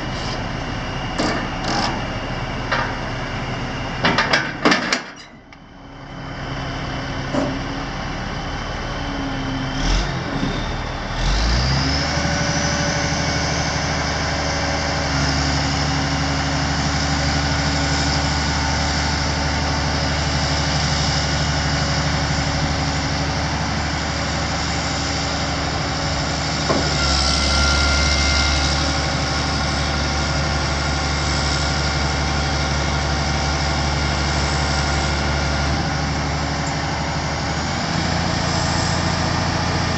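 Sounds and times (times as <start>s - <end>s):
diesel truck engine idling: 0.0s - 4.7s, 5.4s - 39.9s.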